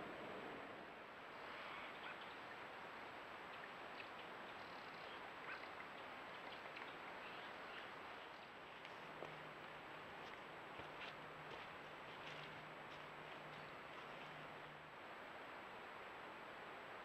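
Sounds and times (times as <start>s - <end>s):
flowing creek water: 0.0s - 17.0s.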